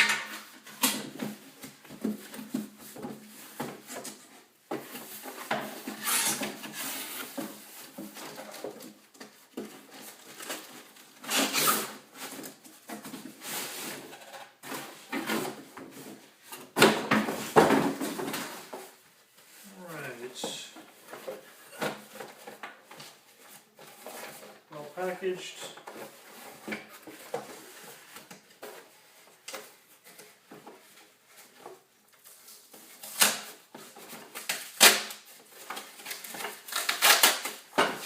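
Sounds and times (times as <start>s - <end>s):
cardboard rustling and scraping: 0.2s - 38.0s.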